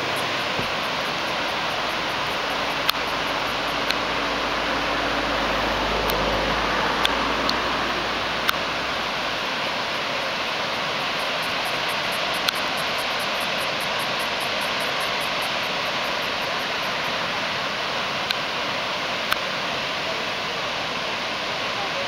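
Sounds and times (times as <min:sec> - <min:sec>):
water rushing over spillway: 0:00.0 - 0:22.0.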